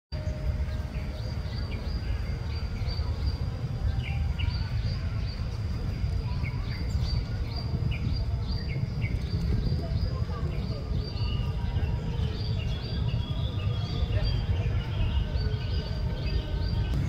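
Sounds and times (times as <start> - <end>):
low background rumble: 0.2 - 17.0.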